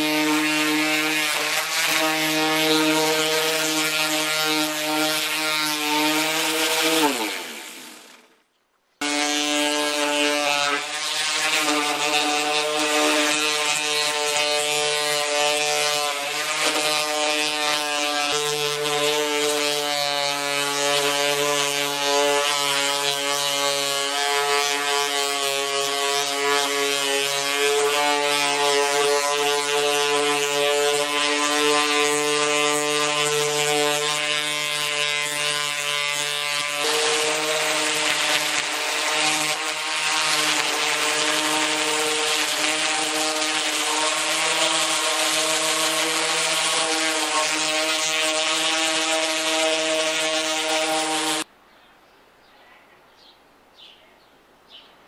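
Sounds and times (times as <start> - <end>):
orbital sander on metal: 0.0 - 8.3, 9.0 - 51.5.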